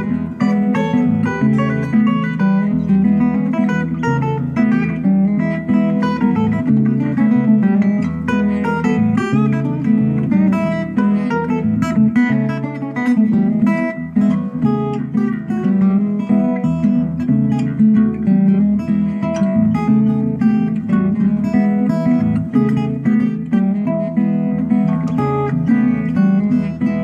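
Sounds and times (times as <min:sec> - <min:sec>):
resonator guitar playing: 0:00.0 - 0:27.0.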